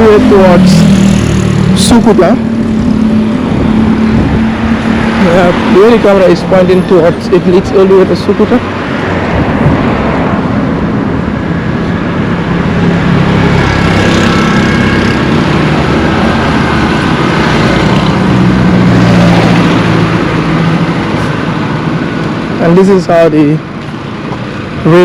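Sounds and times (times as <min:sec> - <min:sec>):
motor vehicle engine running: 0:00.0 - 0:08.8, 0:09.4 - 0:23.0
traffic noise: 0:00.0 - 0:25.0.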